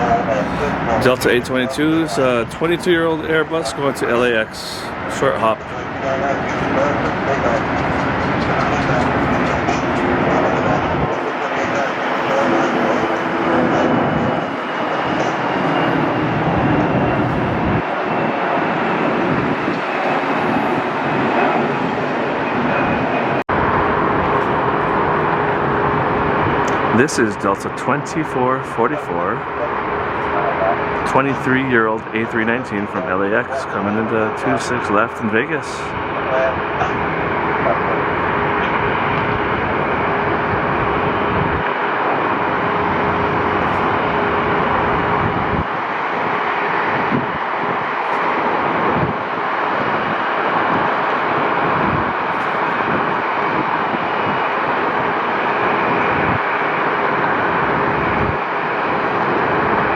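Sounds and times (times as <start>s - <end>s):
faint high engine whine: 0.0s - 59.9s
jet airliner engines rushing: 0.0s - 59.9s.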